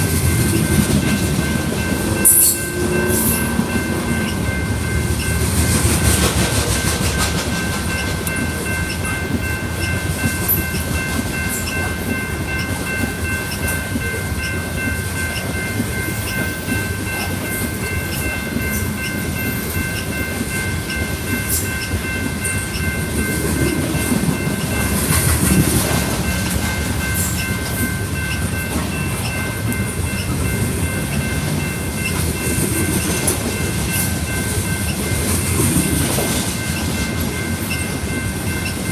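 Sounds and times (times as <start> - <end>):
steel wheels rumbling on rail: 0.0 - 38.9
wheels clicking over rail joints: 0.0 - 38.9.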